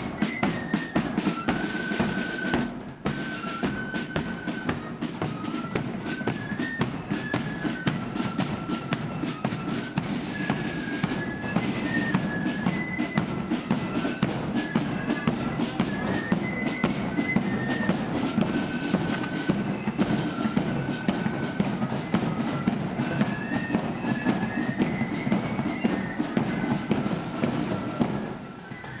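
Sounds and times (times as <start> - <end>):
flutes playing march melody: 0.0 - 29.0
snare drumming: 0.0 - 29.0.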